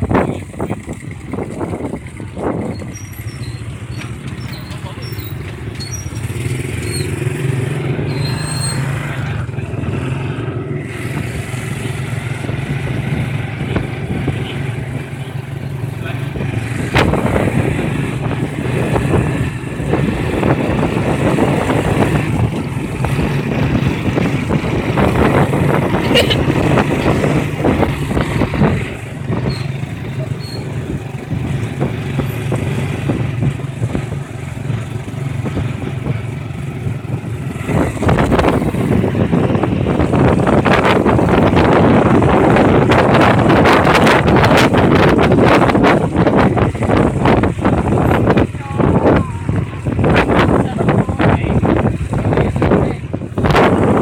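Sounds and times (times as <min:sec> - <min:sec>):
motorcycle engines droning: 0:00.0 - 0:54.0.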